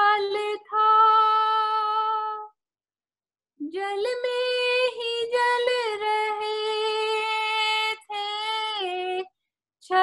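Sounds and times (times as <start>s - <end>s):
woman singing unaccompanied: 0.0s - 2.6s, 3.6s - 9.3s.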